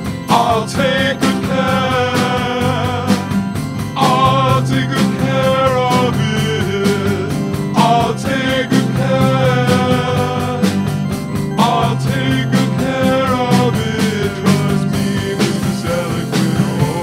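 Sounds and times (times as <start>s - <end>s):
electric guitars bending notes: 0.0s - 17.0s
steady drum beat: 0.0s - 17.0s.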